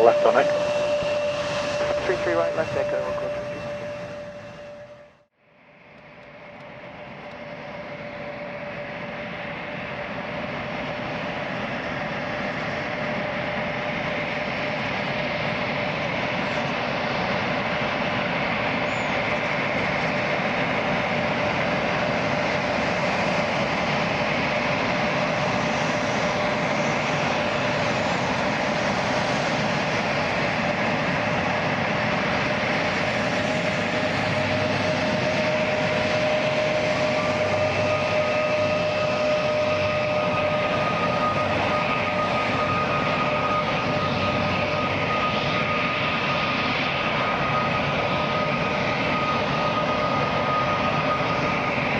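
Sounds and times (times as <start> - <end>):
jet engines whining: 0.0 - 51.9
rising engine whine: 0.0 - 51.9.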